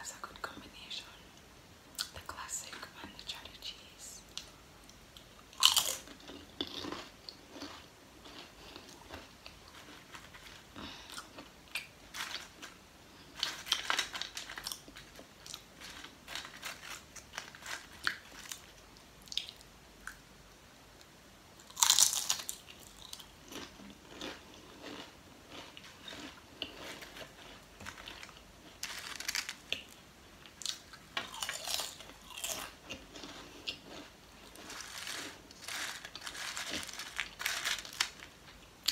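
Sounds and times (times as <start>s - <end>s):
crackly chewing: 4.3s - 20.2s, 21.6s - 38.9s
potato chips crunching: 5.6s - 19.6s, 21.6s - 38.9s.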